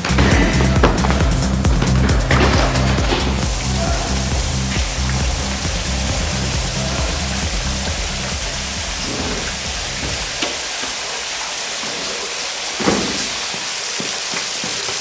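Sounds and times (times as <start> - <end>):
shower water spraying: 0.0 - 15.0.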